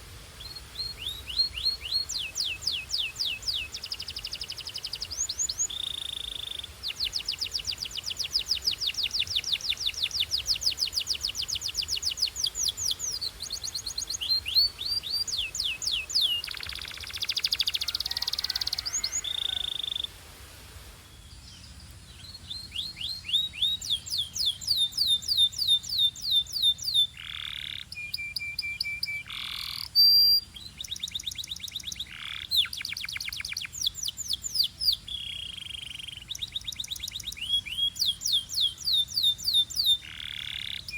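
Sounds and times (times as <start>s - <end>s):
canary singing trills: 0.4s - 20.1s, 21.4s - 40.9s.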